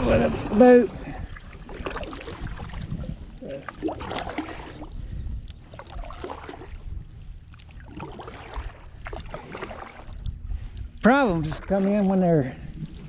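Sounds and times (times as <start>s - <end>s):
kayak paddle strokes in water: 0.0s - 13.0s
splashes and drips from paddle: 0.0s - 13.0s.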